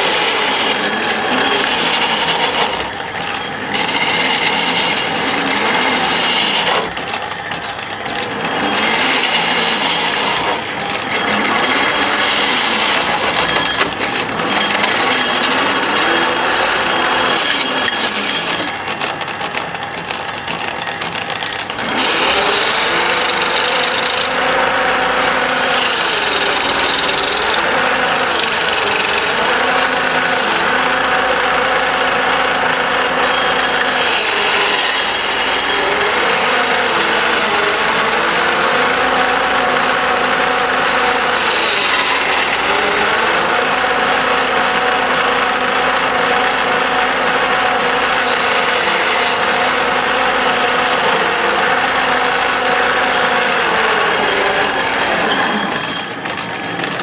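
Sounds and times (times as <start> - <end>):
turning tool scraping wood: 0.0 - 57.0
wood lathe motor hum: 0.0 - 57.0.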